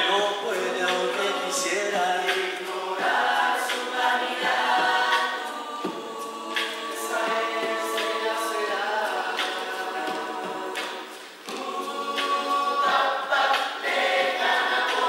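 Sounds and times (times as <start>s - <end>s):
mixed chorus singing in harmony: 0.0s - 15.0s.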